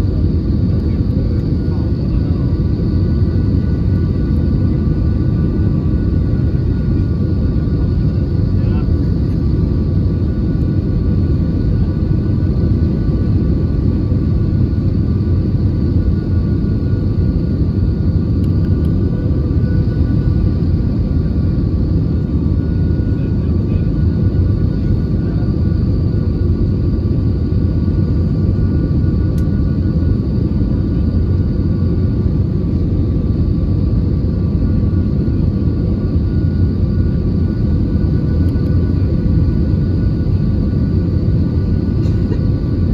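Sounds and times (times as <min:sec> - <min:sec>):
aircraft engines and airflow rumble: 0:00.0 - 0:42.9
faint steady whine: 0:00.0 - 0:42.9.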